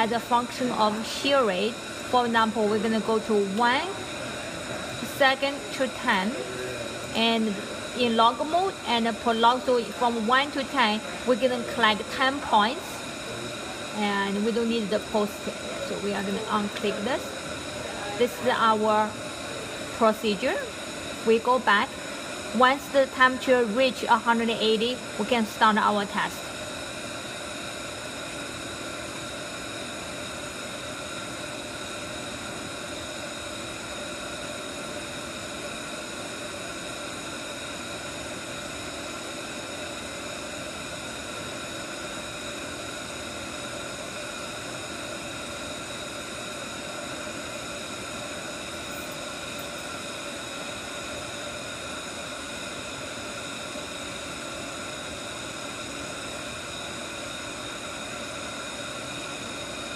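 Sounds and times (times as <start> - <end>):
fan blowing air: 0.0 - 59.9.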